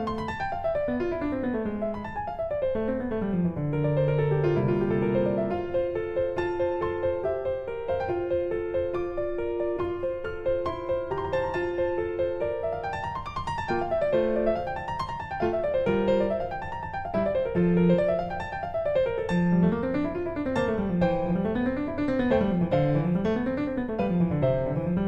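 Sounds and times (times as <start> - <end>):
piano music with quick runs: 0.0 - 25.0.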